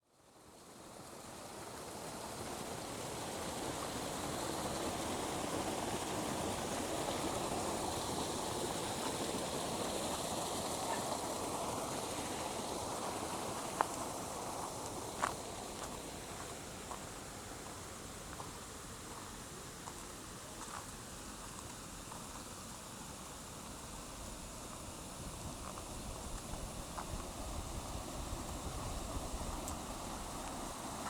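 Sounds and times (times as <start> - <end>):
flowing water rushing: 0.4 - 31.0.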